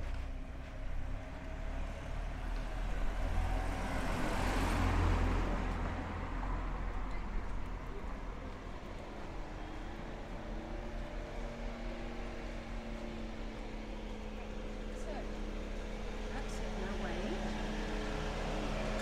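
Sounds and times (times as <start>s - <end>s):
car driving past: 0.8s - 19.0s.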